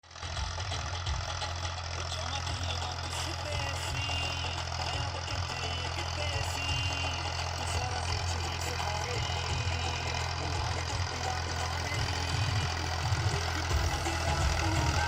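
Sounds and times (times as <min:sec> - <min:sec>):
tractor diesel engine running: 0:00.0 - 0:15.0
faint music: 0:00.6 - 0:15.0.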